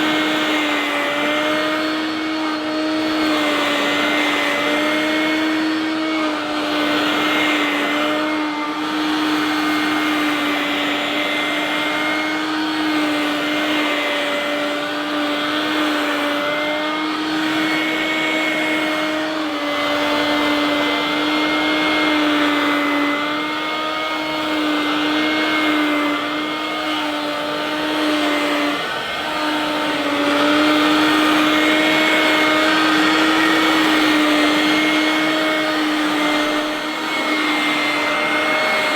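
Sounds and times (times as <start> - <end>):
handheld vacuum cleaner running: 0.0 - 38.9.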